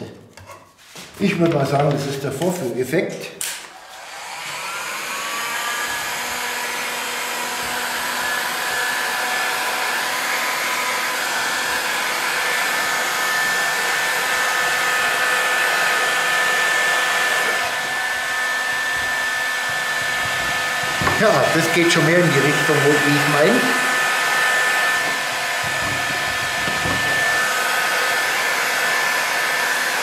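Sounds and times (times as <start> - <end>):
heat gun blowing air: 3.4 - 30.0.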